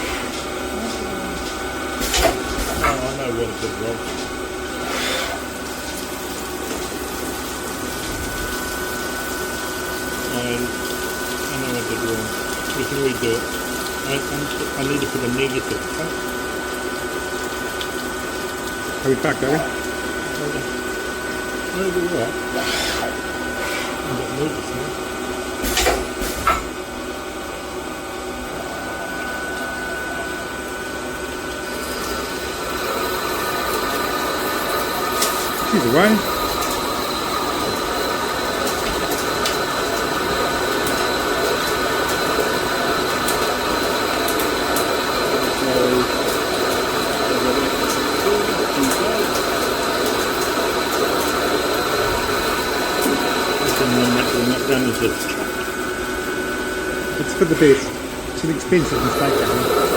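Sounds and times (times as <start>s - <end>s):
coolant splashing and gushing: 0.0s - 59.9s
steady machine whine: 0.0s - 59.9s.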